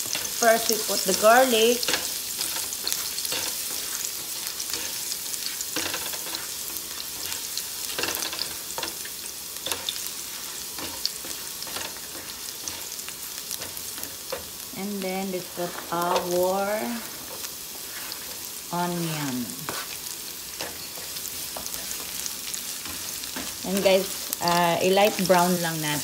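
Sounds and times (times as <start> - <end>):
spatula scraping a pan: 0.0 - 14.7, 15.3 - 24.4
garlic sizzling in oil: 0.0 - 26.0.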